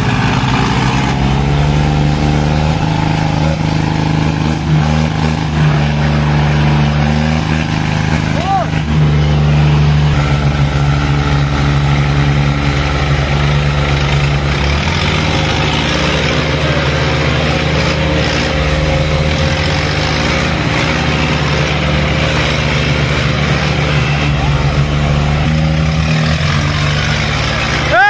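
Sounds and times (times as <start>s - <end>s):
diesel tractor engines running: 0.0s - 28.0s.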